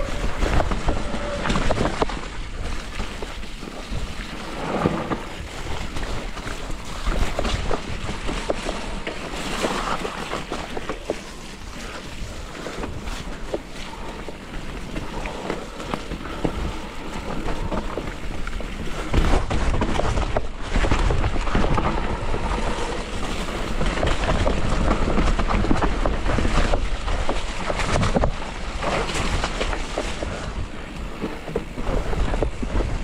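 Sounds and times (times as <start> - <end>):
bike rattling: 0.0 - 33.0
wind buffeting microphone: 0.0 - 33.0.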